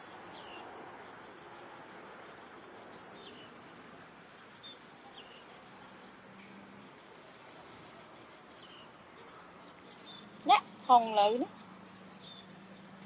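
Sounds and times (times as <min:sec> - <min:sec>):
low steady hiss: 0:00.0 - 0:13.0
faint high bird chirps: 0:01.4 - 0:13.0.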